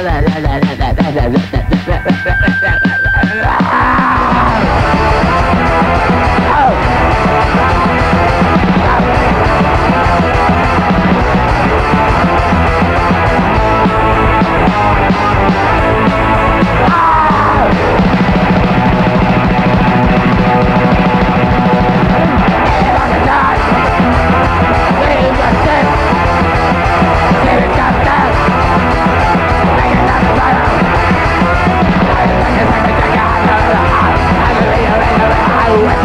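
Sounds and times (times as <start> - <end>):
hardcore punk band playing: 0.0 - 36.0
yelled vocals: 0.0 - 36.0.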